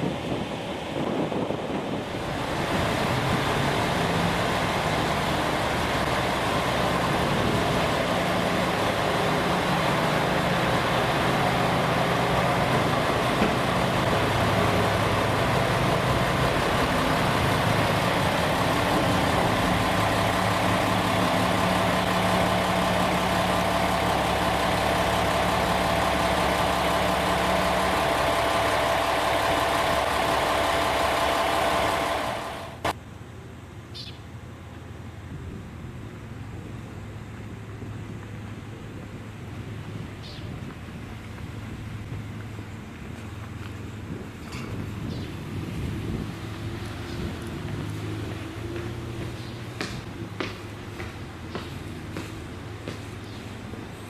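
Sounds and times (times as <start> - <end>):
diesel railcar engine idling: 0.0 - 54.0.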